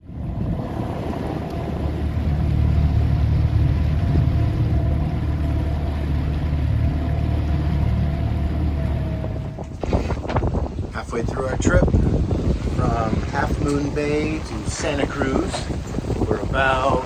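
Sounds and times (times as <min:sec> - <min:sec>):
boat engine hum: 0:00.0 - 0:17.0
water noise: 0:00.0 - 0:17.0
wind: 0:00.0 - 0:17.0.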